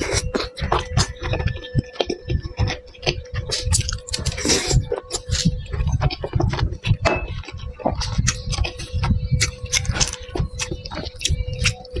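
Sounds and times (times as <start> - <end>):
chewing with wet squelches: 0.0 - 12.0.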